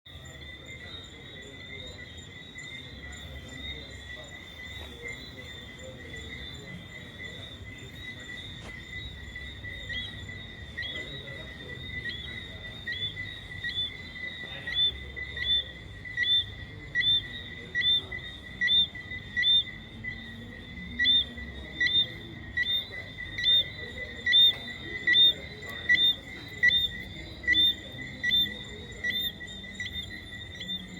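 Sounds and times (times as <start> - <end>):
insects trilling: 0.1 - 30.9.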